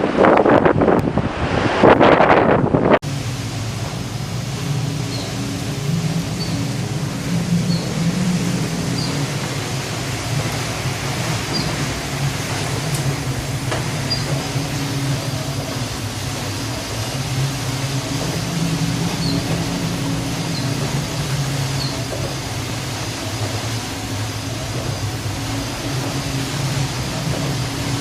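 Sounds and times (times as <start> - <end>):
low mechanical drone: 0.0 - 28.0
wash of noise: 0.0 - 28.0.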